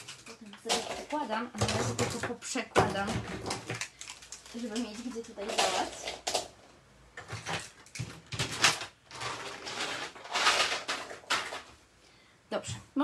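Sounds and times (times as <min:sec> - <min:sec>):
plastic markers clattering: 0:00.0 - 0:06.5, 0:07.2 - 0:11.7.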